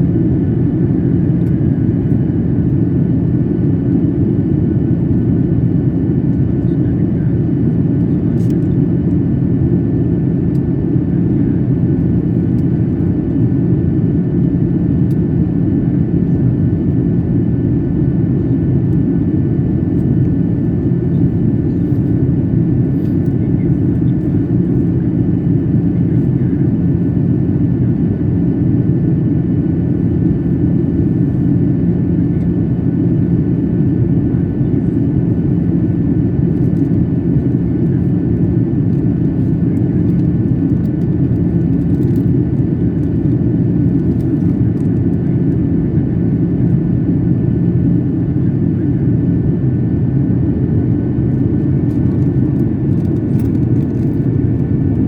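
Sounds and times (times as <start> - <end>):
airliner engine rumble: 0.0 - 55.0.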